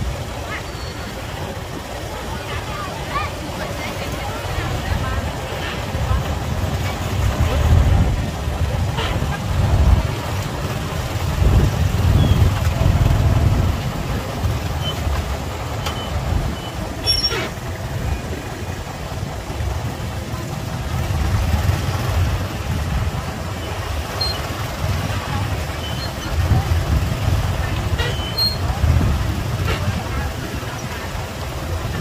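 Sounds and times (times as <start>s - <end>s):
engines idling in traffic: 0.0s - 32.0s.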